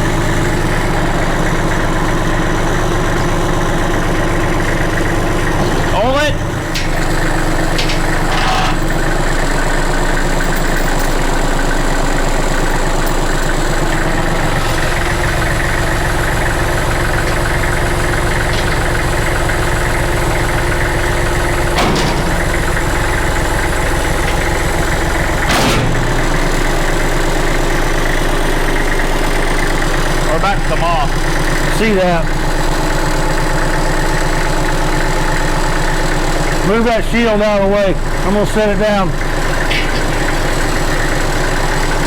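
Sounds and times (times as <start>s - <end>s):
tractor engine running under load: 0.0s - 42.0s.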